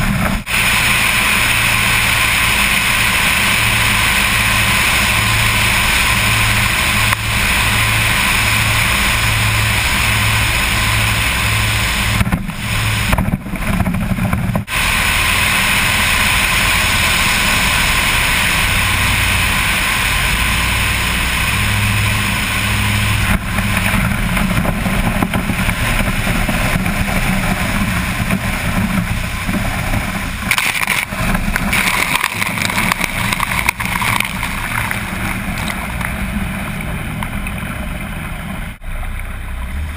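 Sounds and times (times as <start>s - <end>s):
water spray hitting: 0.0s - 38.3s
wind rush: 0.0s - 38.8s
aircraft engines throbbing: 0.0s - 39.9s.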